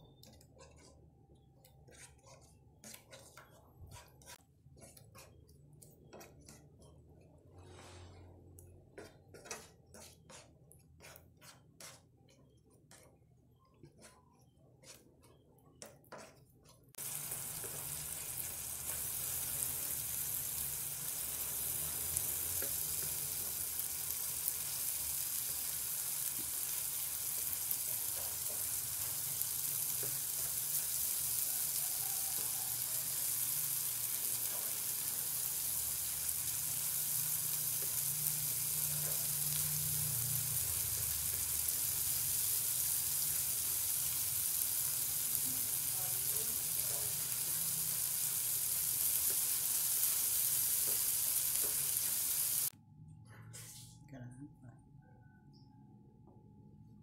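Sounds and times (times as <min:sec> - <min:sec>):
paste sizzling in oil: 0:00.0 - 0:08.3, 0:08.9 - 0:52.7.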